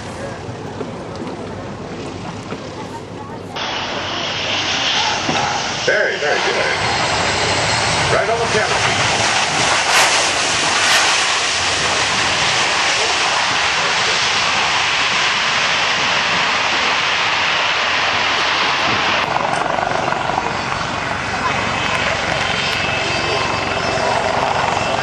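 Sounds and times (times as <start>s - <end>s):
aircraft engine noise: 0.0s - 25.0s.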